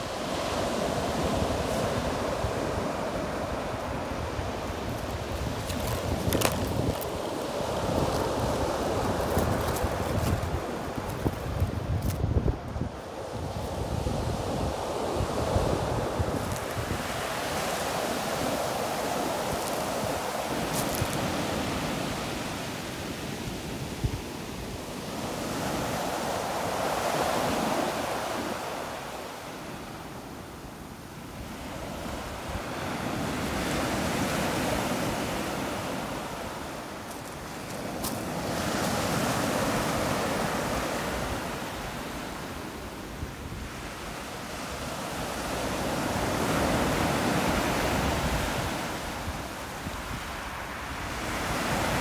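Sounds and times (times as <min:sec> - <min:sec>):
waves washing on pebble beach: 0:00.0 - 0:52.0.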